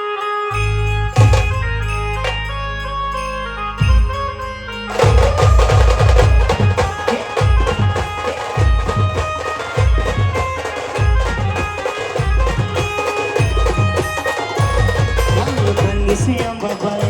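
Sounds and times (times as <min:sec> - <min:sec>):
loud reedy melody: 0:00.0 - 0:17.0
heavy drum beats: 0:01.1 - 0:02.6, 0:03.8 - 0:17.0.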